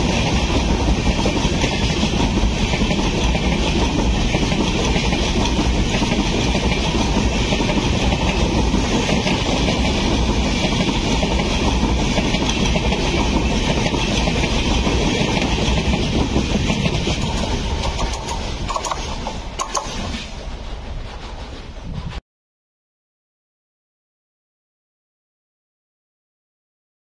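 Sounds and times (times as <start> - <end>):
train wheels rumbling on rail: 0.0 - 22.2.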